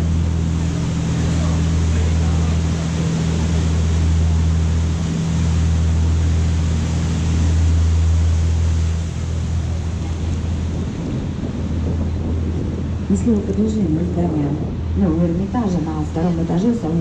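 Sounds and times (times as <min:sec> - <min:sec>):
boat engine droning: 0:00.0 - 0:17.0
water and wind hiss: 0:00.0 - 0:17.0.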